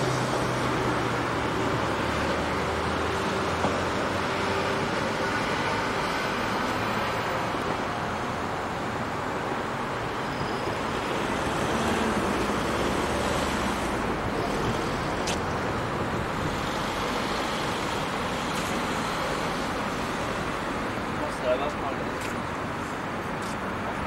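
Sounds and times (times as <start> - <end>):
road traffic passing cars: 0.0 - 24.0.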